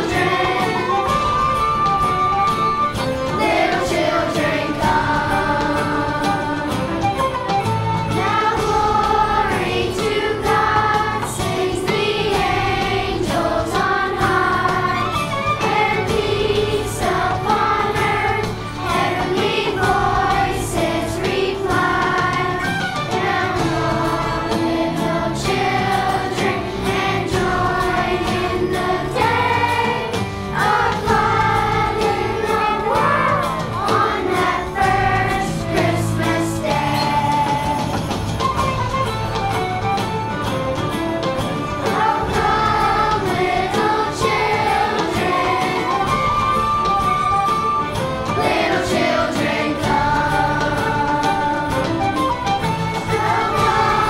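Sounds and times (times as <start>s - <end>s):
children's choir singing: 0.0s - 54.0s
instrumental accompaniment: 0.0s - 54.0s.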